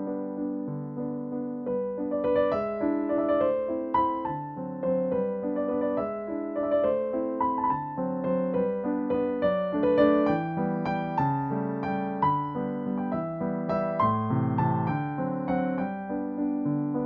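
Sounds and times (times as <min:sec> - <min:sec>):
piano tune: 0:00.0 - 0:17.0.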